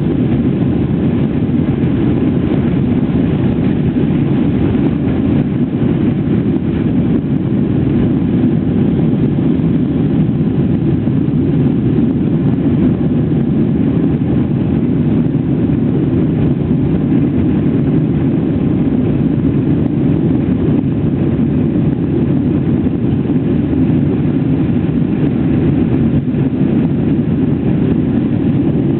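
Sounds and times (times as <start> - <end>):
jet engines at takeoff thrust: 0.0 - 28.9.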